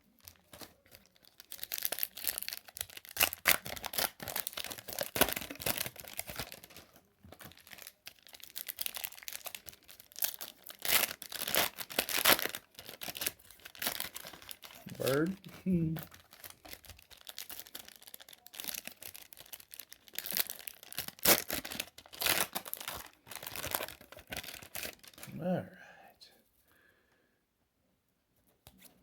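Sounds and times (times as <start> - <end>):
wrapper crinkling and tearing: 0.0 - 25.4.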